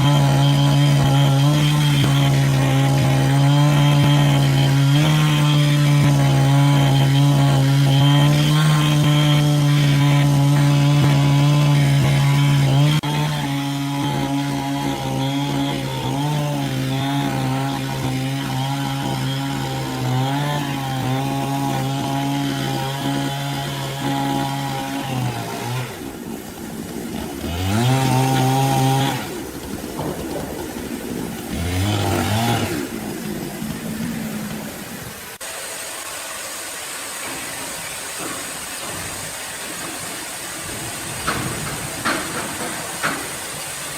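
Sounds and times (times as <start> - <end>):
saw cutting through wood: 0.0 - 29.8, 30.8 - 43.9.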